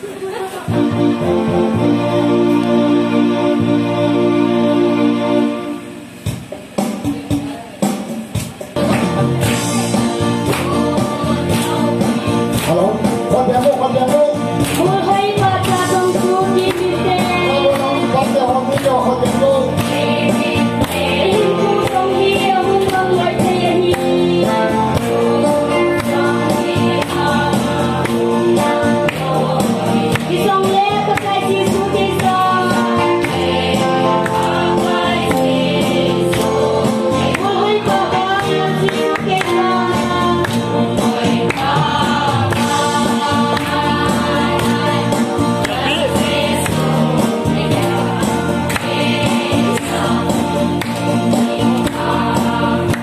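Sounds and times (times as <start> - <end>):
congregation singing a hymn: 0.7 - 6.2, 8.8 - 53.0
steady drumbeat: 6.1 - 53.0.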